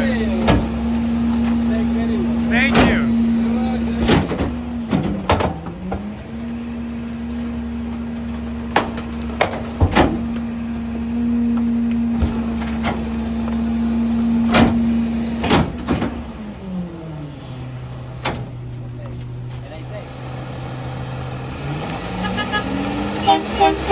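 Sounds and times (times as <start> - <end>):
garbage truck engine revving: 0.0 - 23.9.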